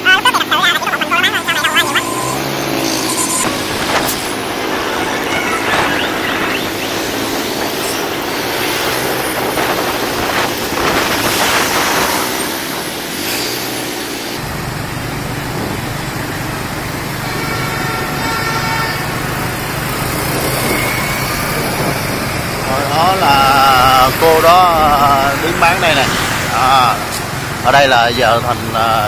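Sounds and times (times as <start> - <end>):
motorbike engine hum: 0.0 - 29.0
street traffic passing: 0.0 - 29.0.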